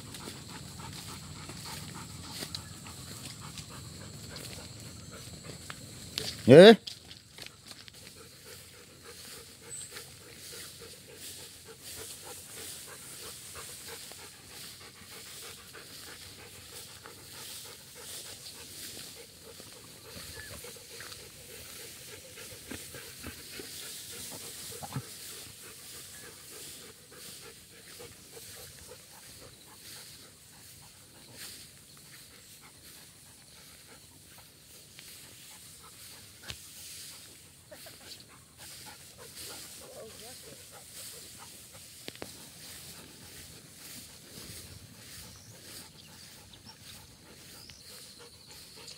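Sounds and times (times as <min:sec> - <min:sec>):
dog panting: 0:00.0 - 0:48.9
tall grass rustling: 0:00.0 - 0:48.9.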